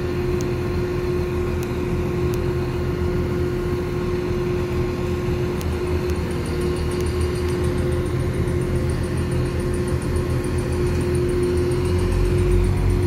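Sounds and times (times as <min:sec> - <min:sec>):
constant hum: 0:00.0 - 0:13.0
diesel train engine idling: 0:00.0 - 0:13.0.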